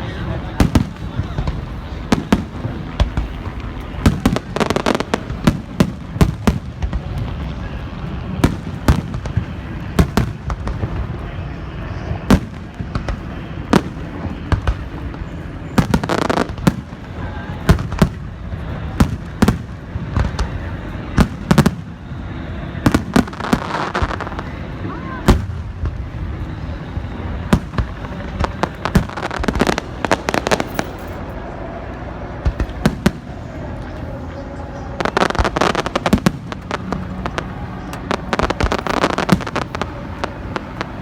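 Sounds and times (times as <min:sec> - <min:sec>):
fireworks booming and banging: 0:00.0 - 0:41.0
fireworks crackle: 0:00.0 - 0:41.0.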